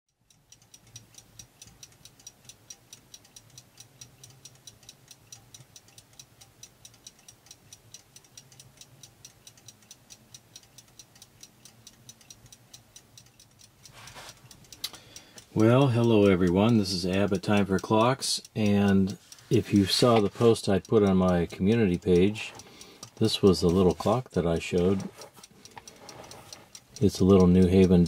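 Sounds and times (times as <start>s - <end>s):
clock ticking: 0.1s - 28.0s.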